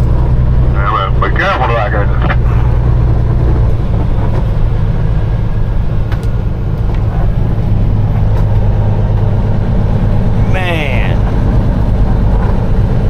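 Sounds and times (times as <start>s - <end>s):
diesel truck engine droning: 0.0s - 13.0s.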